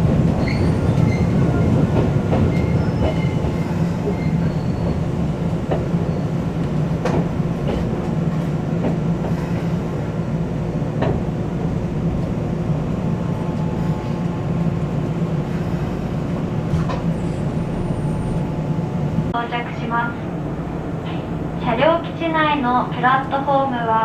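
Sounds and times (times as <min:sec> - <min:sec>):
electric train running rumble: 0:00.0 - 0:24.0.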